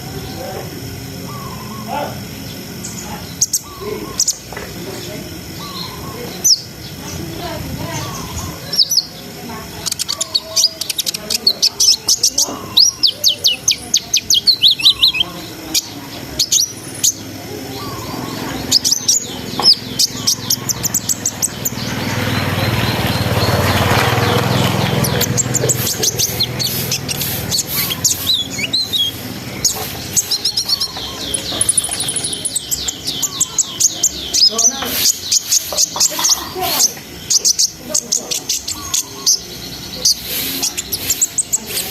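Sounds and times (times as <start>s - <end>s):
sunbird twittering song: 0.0s - 41.9s.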